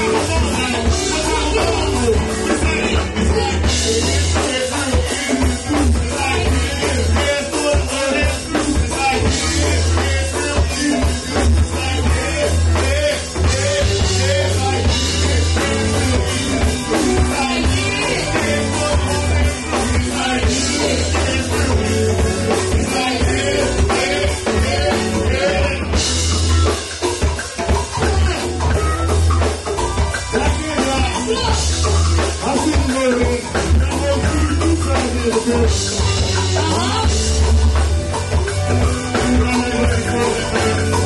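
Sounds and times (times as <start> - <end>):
drum kit: 0.0 - 41.0
electric guitar: 0.0 - 41.0
heavy low bass: 0.0 - 41.0
people singing into microphones: 0.0 - 41.0.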